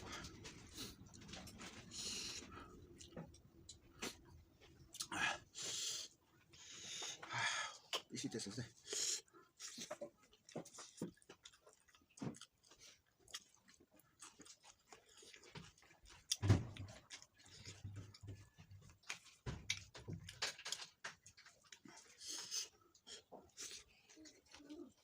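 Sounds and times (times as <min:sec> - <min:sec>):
person chewing food: 0:00.0 - 0:08.1, 0:08.8 - 0:25.0.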